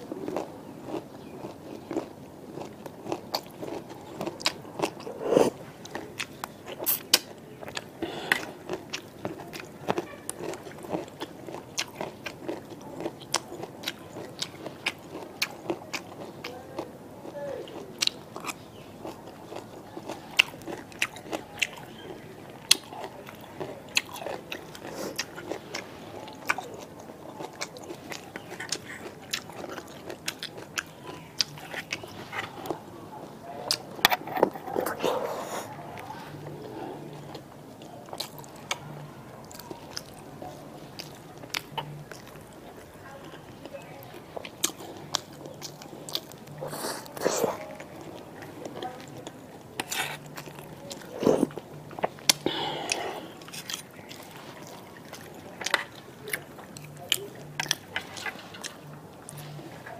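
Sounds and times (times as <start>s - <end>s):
person chewing and lip-smacking: 0.1s - 32.8s, 36.4s - 59.9s.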